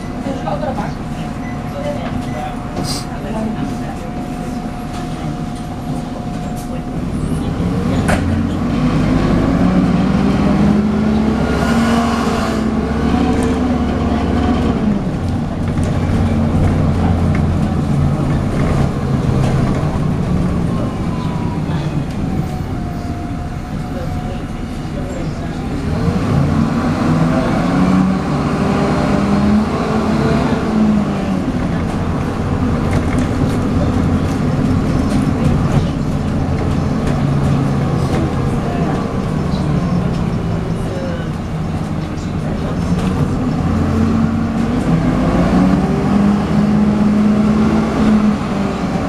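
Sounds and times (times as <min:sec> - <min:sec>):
bus diesel engine whining: 0:00.0 - 0:49.0.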